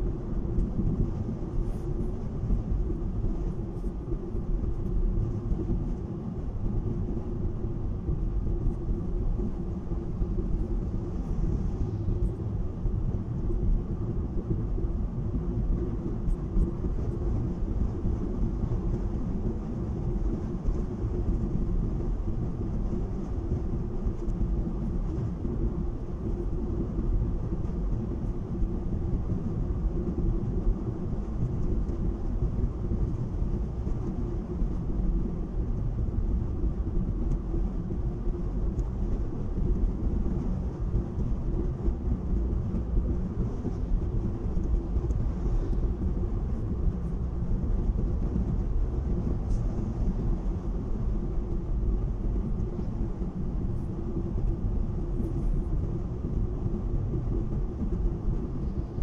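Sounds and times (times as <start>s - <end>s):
car road and engine rumble: 0.0s - 59.0s
low steady hum: 0.0s - 59.0s.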